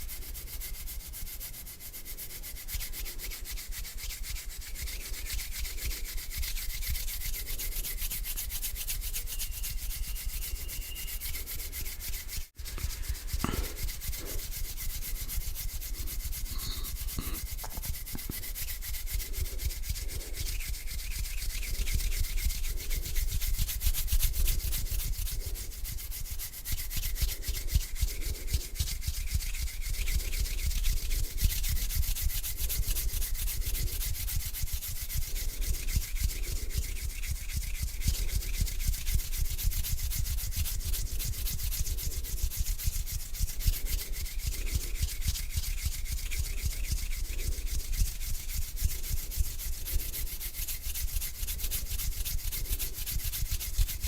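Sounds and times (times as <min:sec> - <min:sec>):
palms rubbing together: 0:00.0 - 0:54.0.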